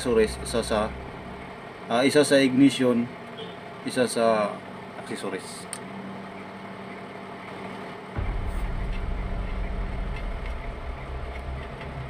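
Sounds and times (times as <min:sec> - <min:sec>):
engine rumbling nearby: 0:00.0 - 0:12.0
steady low hum: 0:00.0 - 0:12.0.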